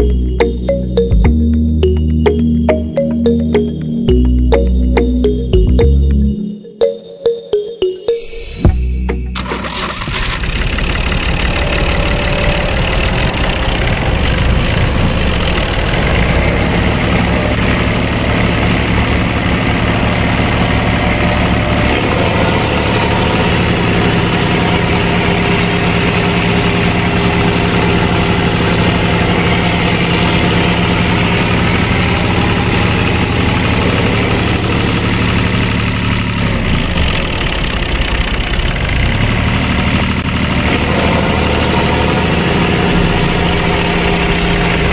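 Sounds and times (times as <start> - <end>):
tractor engine idling: 8.8 - 44.9.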